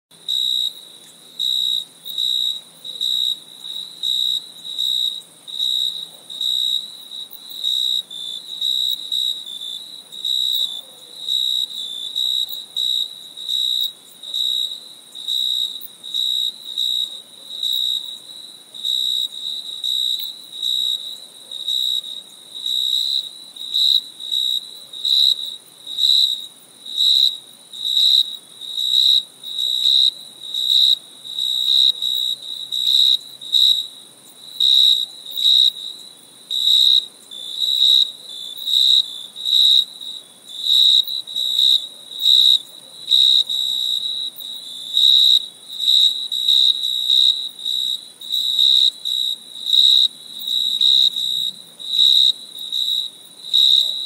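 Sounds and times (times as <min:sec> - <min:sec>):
crickets chirping: 0:00.1 - 0:54.0
high insect trill: 0:00.3 - 0:54.0.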